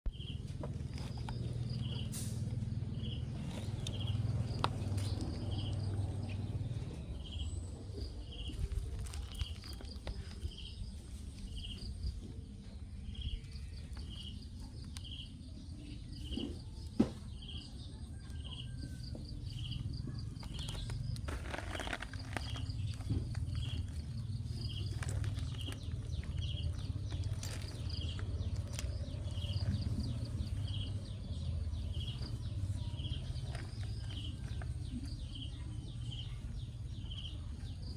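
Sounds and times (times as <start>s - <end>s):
low steady rumble: 0.1s - 37.9s.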